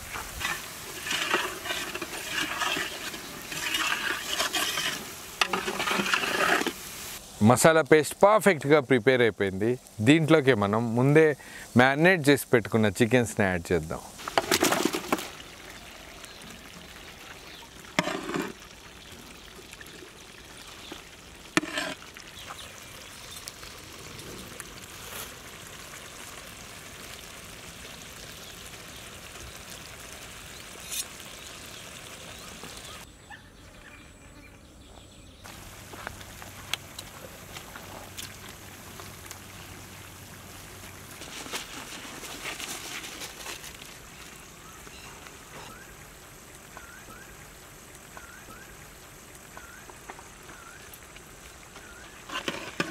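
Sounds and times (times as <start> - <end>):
gravy sizzling in pot: 0.0 - 33.1, 35.4 - 52.9.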